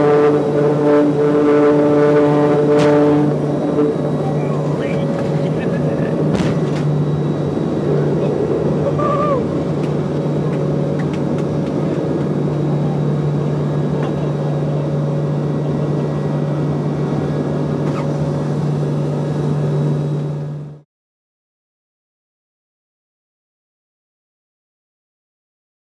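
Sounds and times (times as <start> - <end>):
turboprop cabin drone: 0.0 - 20.9.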